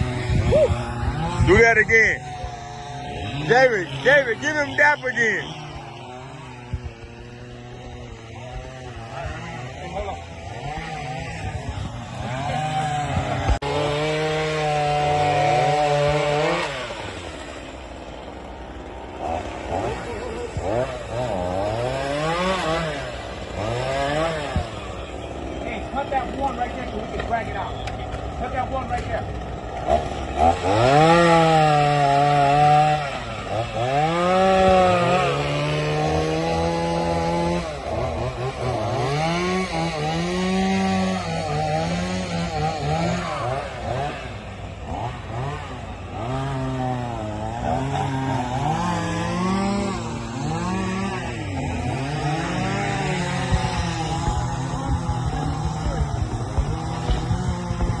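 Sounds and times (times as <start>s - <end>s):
chainsaw running at high revs: 0.0s - 58.0s.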